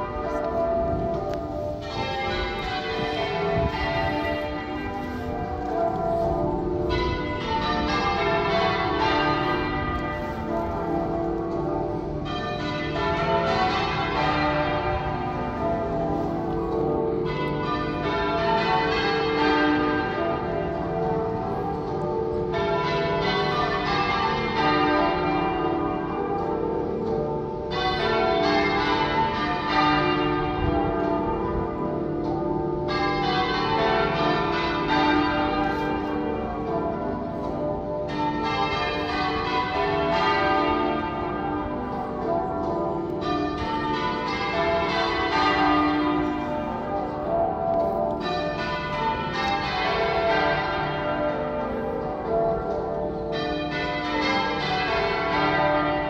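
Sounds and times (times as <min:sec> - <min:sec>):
half-muffled church bells ringing: 0:00.0 - 0:56.0.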